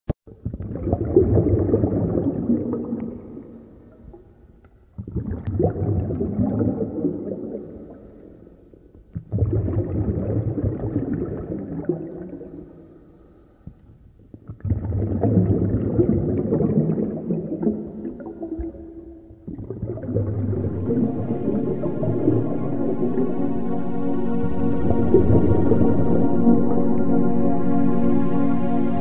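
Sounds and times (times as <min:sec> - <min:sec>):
underwater gurgling rumble: 0:00.3 - 0:13.2, 0:14.0 - 0:29.0.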